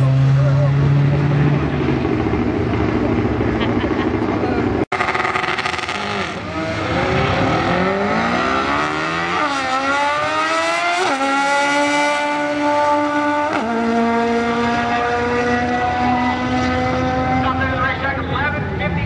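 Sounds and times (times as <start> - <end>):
drag car engines revving and shifting: 0.0 - 19.0.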